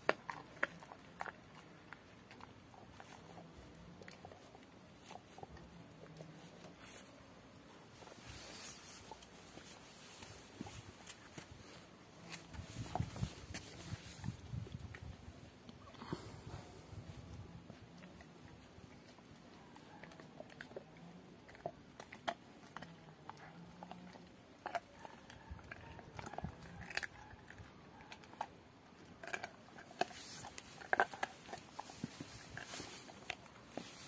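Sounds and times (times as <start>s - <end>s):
dog gnawing bone: 0.0s - 34.0s.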